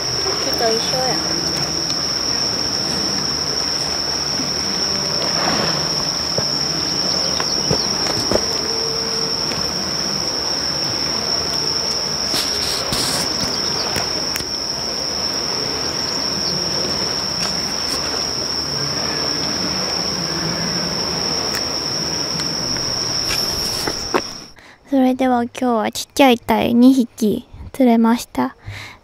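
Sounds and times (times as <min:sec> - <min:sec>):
insect trilling: 0:00.0 - 0:24.6
loud rushing noise: 0:00.0 - 0:24.6.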